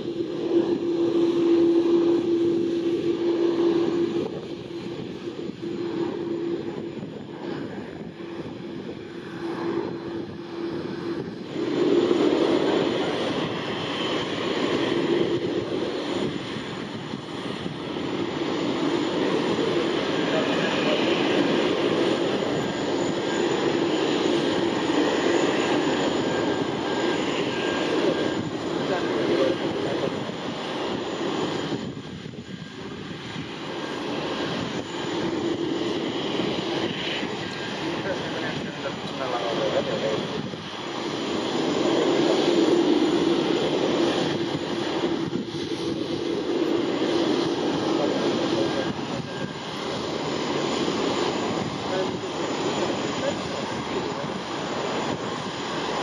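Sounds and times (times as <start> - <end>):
jet engine hum: 0.0 - 56.0
loud jet engine noise: 0.0 - 56.0.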